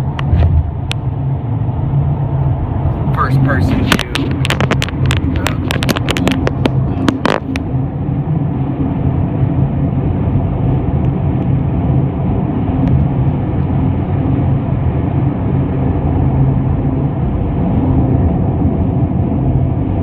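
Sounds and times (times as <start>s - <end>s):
car engine hum: 0.0s - 20.0s
road noise: 0.0s - 20.0s.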